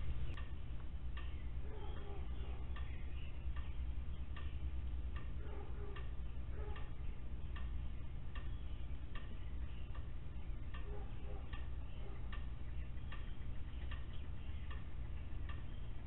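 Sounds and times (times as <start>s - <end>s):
low hum: 0.0s - 16.0s
steady ticking: 0.0s - 16.0s.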